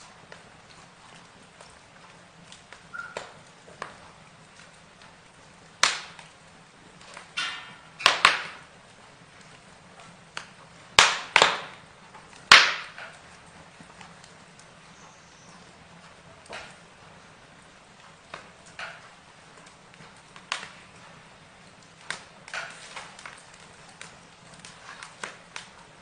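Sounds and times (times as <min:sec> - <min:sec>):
burning wood crackling: 0:00.0 - 0:26.0
sharp pops from fire: 0:00.0 - 0:26.0.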